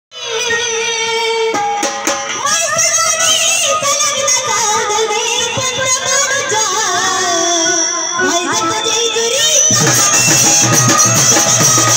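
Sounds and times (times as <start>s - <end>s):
instrumental accompaniment: 0.2s - 11.9s.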